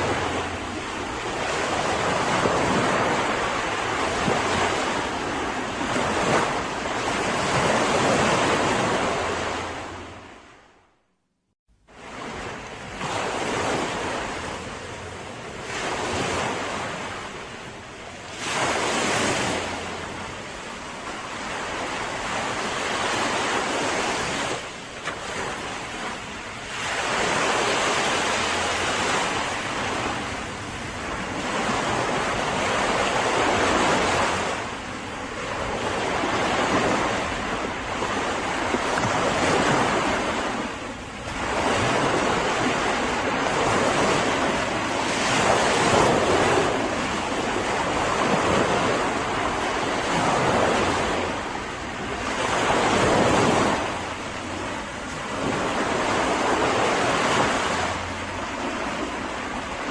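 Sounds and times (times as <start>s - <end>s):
sea waves breaking on beach: 0.0s - 10.7s, 11.9s - 59.9s.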